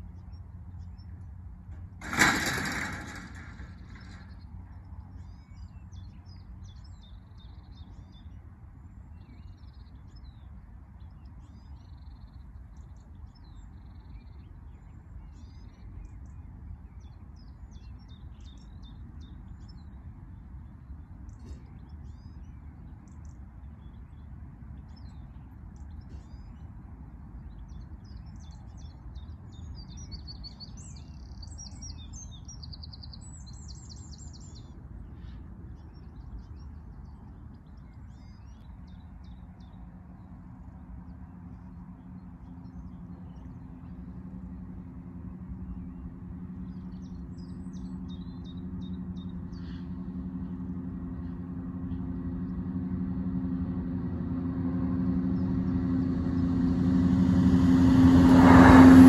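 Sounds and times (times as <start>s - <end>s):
low background rumble: 0.0s - 59.0s
songbirds chirping: 0.0s - 59.0s.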